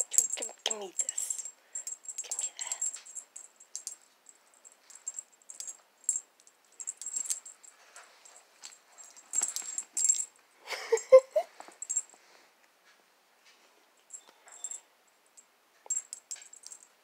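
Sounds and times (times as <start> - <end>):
jingly rattling and rustling: 0.0 - 12.3, 14.0 - 17.0.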